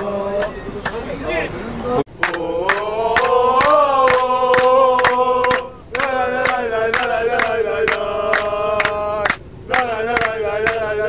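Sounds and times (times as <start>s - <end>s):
football supporters chanting: 0.0s - 11.0s.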